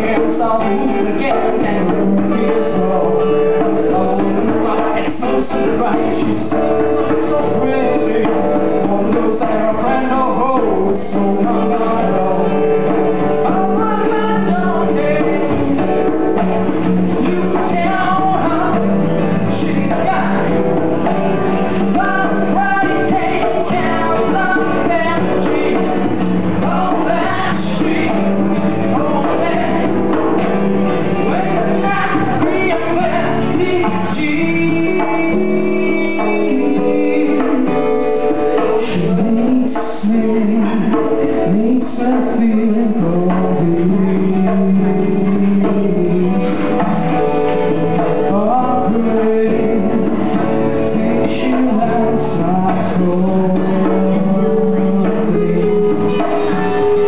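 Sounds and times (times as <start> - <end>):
acoustic guitars playing: 0.0 - 57.0
hand drum: 0.0 - 57.0
person singing: 0.0 - 57.0.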